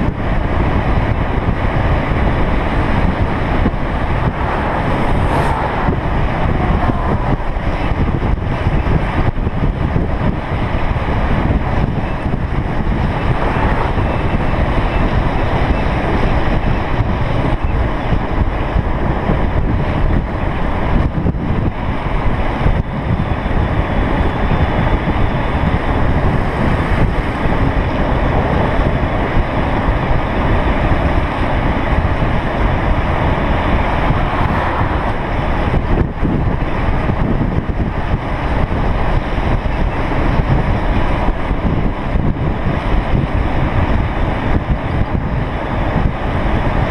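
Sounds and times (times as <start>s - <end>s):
low road rumble: 0.0s - 46.9s
wind roaring over microphone: 0.0s - 46.9s.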